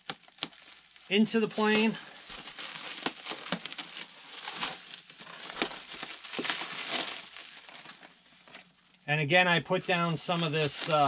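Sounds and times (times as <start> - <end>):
bubble wrap and tape crinkling: 0.0 - 11.0
sharp crackles: 0.0 - 11.0.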